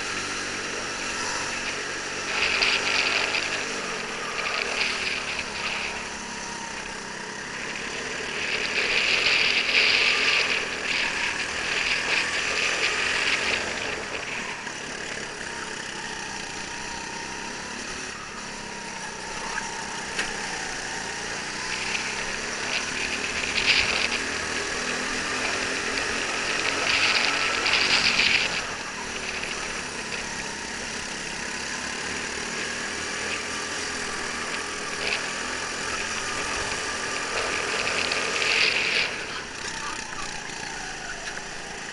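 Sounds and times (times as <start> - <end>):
go-kart engine: 0.0 - 41.9
other karts nearby: 0.0 - 41.9.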